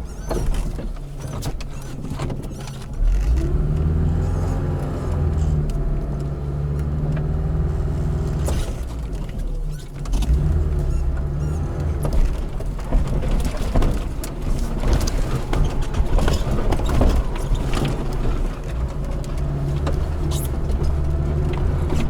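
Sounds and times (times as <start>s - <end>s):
car engine under load: 0.0s - 22.0s
knocks and rattles over rough ground: 0.0s - 22.0s.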